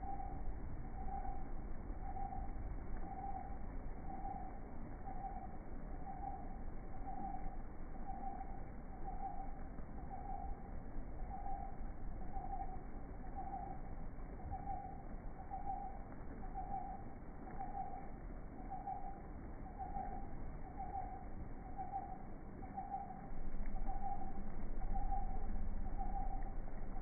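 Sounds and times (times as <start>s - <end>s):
low rumbling noise: 0.0s - 27.0s
mid-pitched hooting tones: 0.0s - 27.0s.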